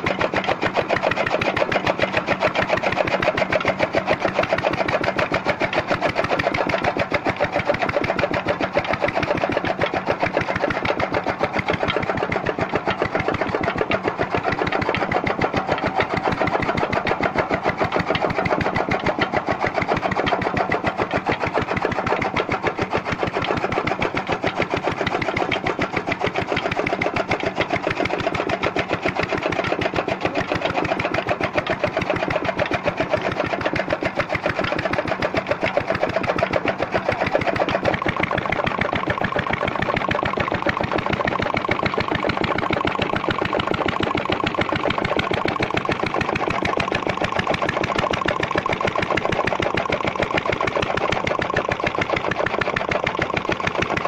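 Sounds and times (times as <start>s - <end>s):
small engine running steadily: 0.0s - 54.0s.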